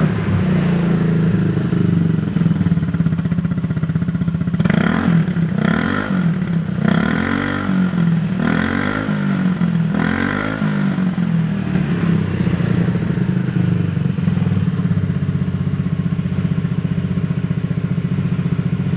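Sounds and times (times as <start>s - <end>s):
scooter engine revving and idling: 0.0s - 18.9s.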